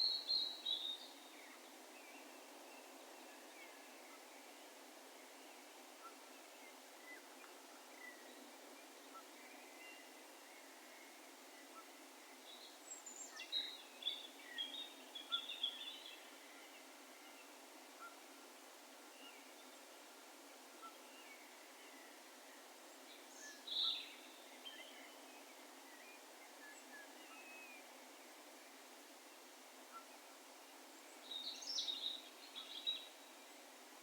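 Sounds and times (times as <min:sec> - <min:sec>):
faint background hiss: 0:00.0 - 0:34.0.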